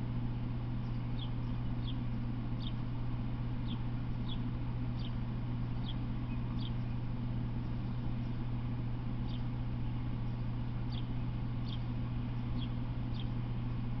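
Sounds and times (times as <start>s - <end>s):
steady low hum: 0.0s - 14.0s
small bird chirping: 0.7s - 2.9s, 3.6s - 13.8s.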